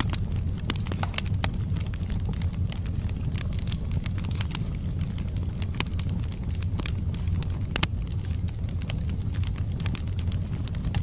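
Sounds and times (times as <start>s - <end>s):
fire rumbling: 0.0s - 11.0s
logs crackling and popping: 0.0s - 11.0s.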